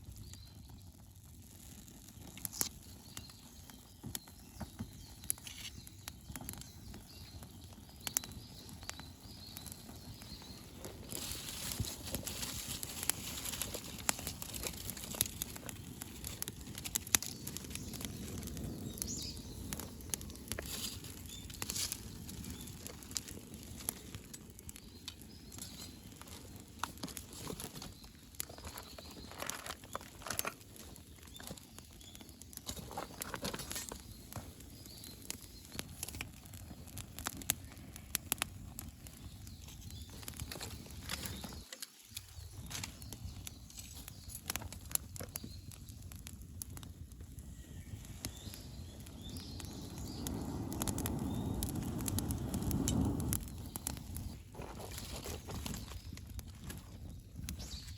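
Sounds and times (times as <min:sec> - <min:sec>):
campfire crackling and popping: 0:00.0 - 0:57.9
steady fire hiss: 0:00.0 - 0:57.9.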